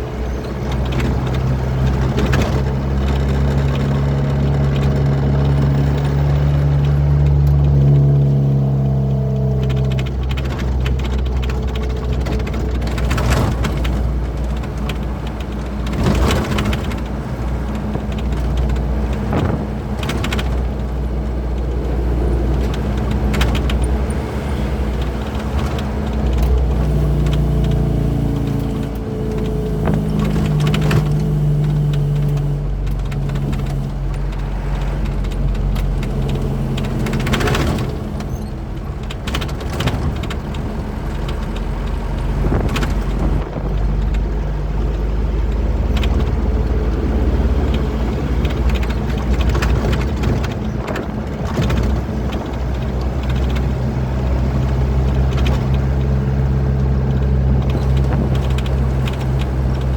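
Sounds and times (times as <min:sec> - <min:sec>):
knocks and rattles: 0:00.0 - 0:08.4, 0:09.3 - 0:59.9
truck engine running: 0:00.0 - 0:59.9.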